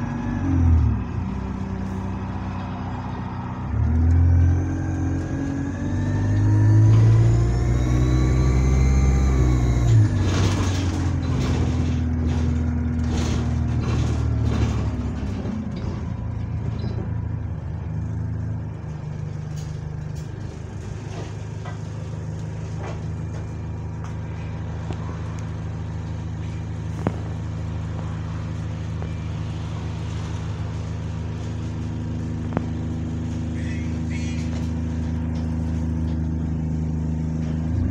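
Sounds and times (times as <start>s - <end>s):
diesel bus engine: 0.0s - 37.9s.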